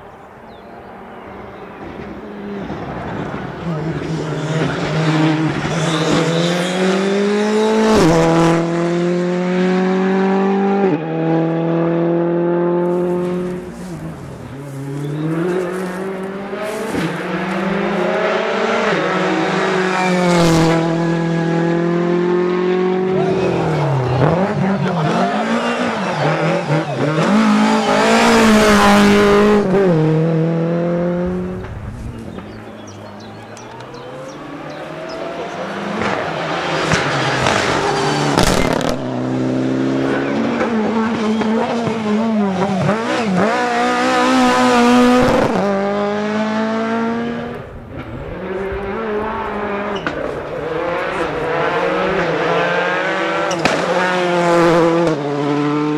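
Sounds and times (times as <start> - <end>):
rally car engine at full throttle: 0.0 - 55.9.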